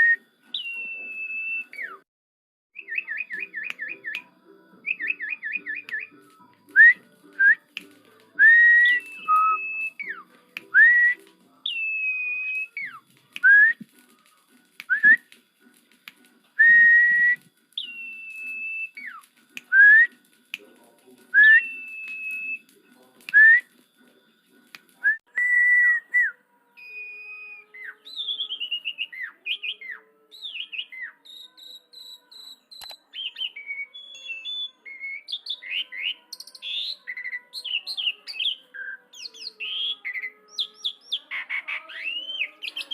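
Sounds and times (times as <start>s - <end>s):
starling whistling and chirping: 0.0s - 2.0s, 2.8s - 4.2s, 4.8s - 7.6s, 8.4s - 14.2s, 16.6s - 20.2s, 21.3s - 22.7s, 25.4s - 42.9s.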